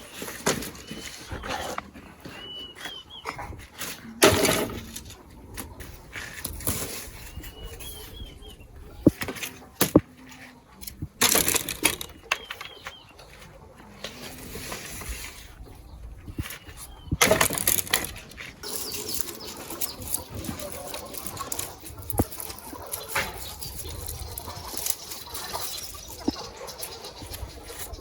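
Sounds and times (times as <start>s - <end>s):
small birds chirping: 0.0s - 3.8s, 5.2s - 28.0s
hens clucking: 0.0s - 28.0s.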